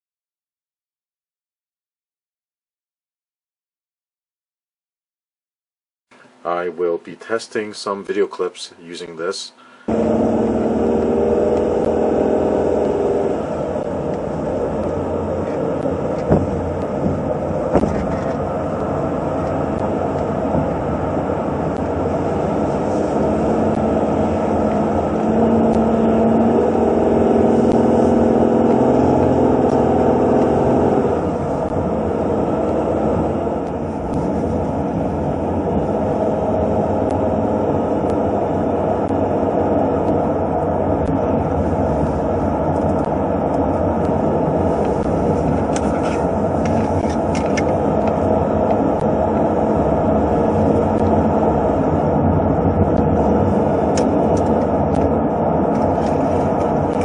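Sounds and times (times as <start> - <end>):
road noise inside car cabin: 6.1 - 57.0
humming car engine: 9.6 - 57.0.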